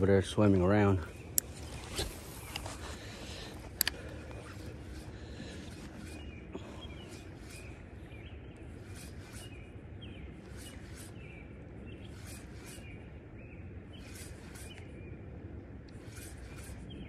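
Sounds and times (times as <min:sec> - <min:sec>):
bird chirping: 0:00.0 - 0:15.2, 0:16.1 - 0:17.0
low outdoor background noise: 0:00.0 - 0:17.0.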